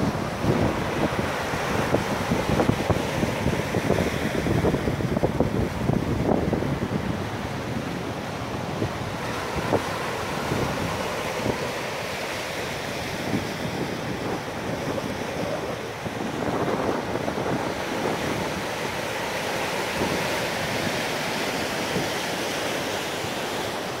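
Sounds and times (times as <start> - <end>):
wind buffeting microphone: 0.0 - 23.0
surf washing over rocks: 0.0 - 24.0.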